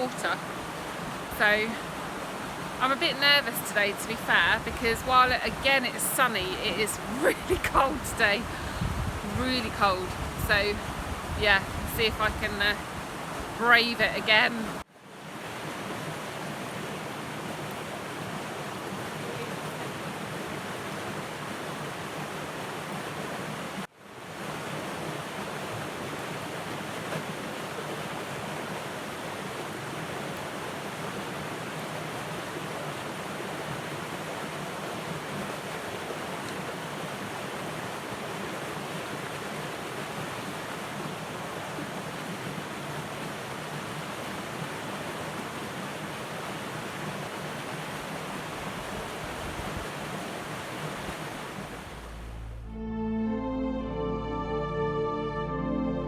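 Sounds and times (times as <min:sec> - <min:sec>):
river cascade rushing into a pool: 0:00.0 - 0:52.4.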